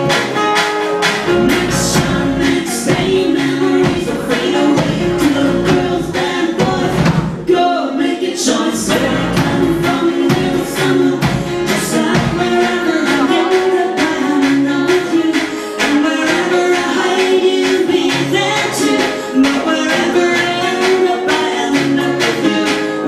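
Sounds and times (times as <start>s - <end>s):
live band playing: 0.0s - 23.0s
person singing: 0.0s - 23.0s.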